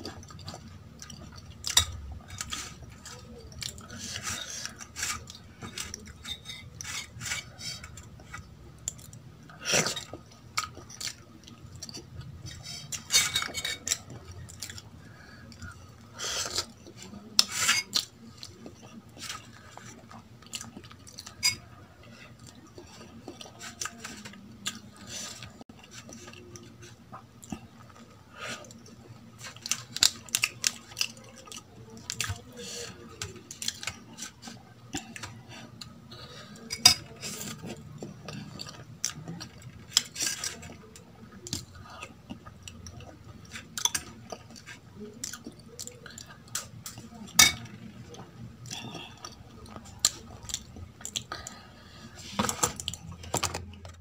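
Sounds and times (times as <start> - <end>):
food squishing and chewing: 0.0 - 54.0.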